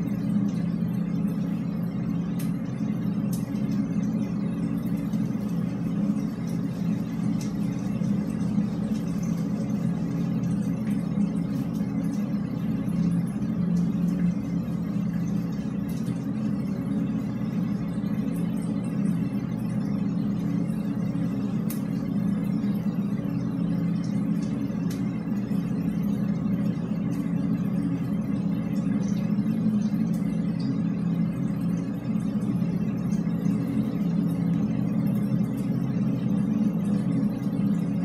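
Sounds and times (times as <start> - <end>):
low rumbling hum in drainpipe: 0.0 - 38.0.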